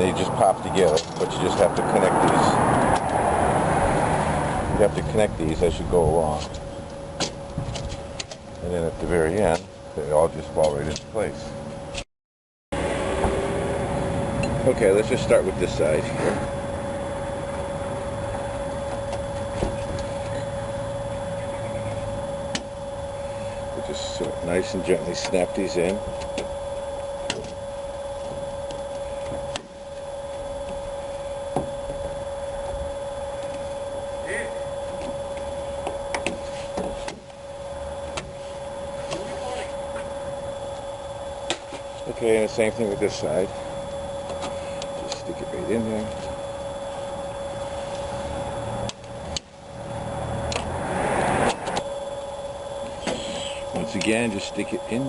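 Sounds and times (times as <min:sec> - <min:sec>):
steady background hum: 0:00.0 - 0:12.0, 0:12.8 - 0:55.0.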